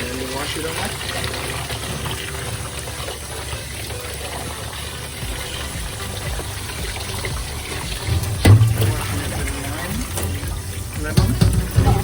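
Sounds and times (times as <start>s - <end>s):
faucet running: 0.0s - 12.0s
water splashing on fish: 0.0s - 12.0s.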